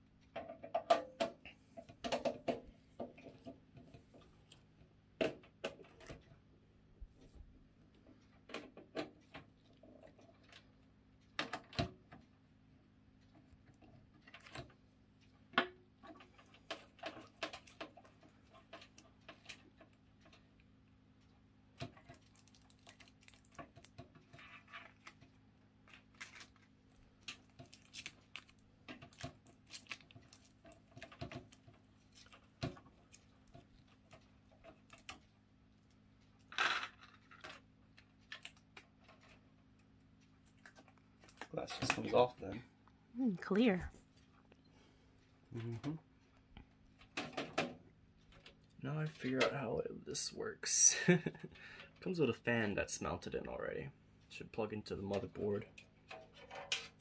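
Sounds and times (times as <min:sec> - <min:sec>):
faint low hum: 0:01.3 - 0:56.9.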